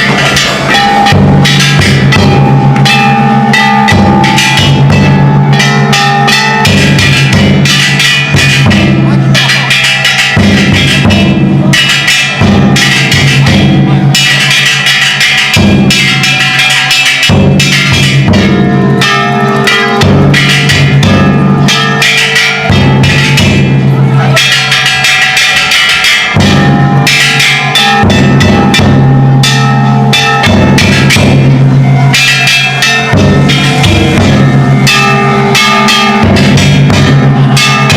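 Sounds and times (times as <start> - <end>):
gongs clanging: 0.0 - 37.9
large taiko drum: 0.0 - 37.9.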